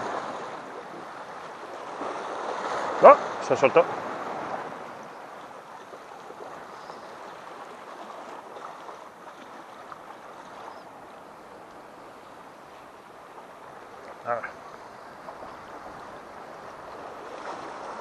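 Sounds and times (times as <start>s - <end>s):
waves washing over rocks: 0.0s - 18.0s.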